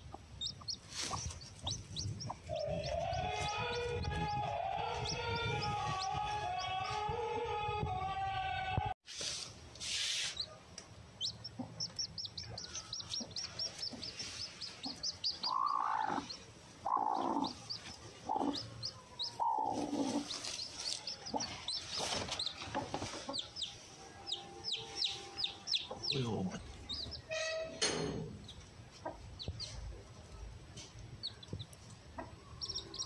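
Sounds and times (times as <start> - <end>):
chicks peeping: 0.0 - 7.8, 11.2 - 27.3, 28.4 - 33.0.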